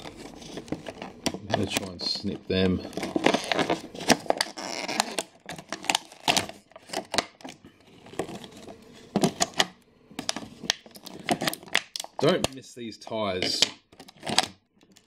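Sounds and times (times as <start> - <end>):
plastic tray crinkling: 0.0 - 12.6, 13.3 - 15.0.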